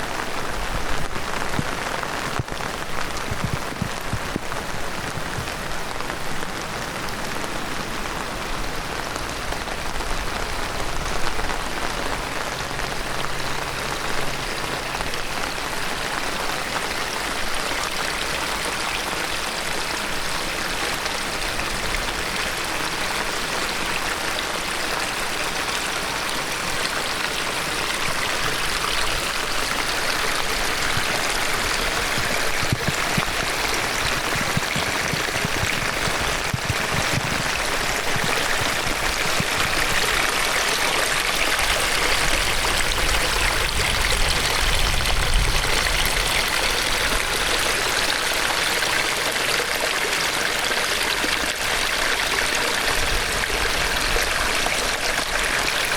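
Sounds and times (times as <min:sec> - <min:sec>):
rain falling: 0:00.0 - 0:55.9
stream rushing: 0:00.0 - 0:55.9.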